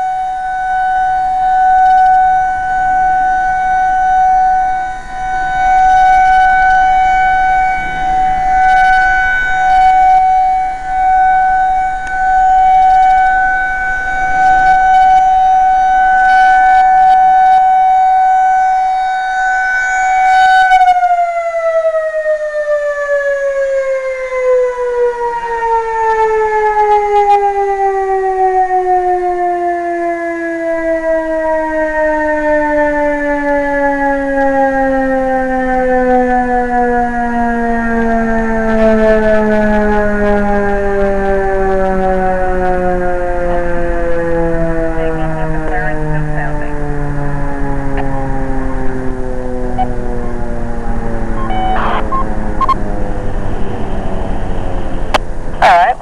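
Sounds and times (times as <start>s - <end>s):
warning siren winding down: 0.0s - 56.0s.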